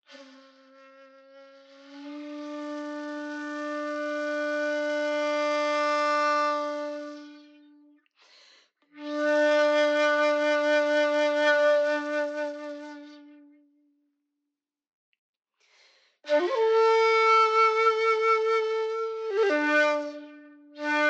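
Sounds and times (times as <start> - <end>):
bamboo flute long notes: 0.0 - 7.9, 9.0 - 13.7, 16.3 - 21.0.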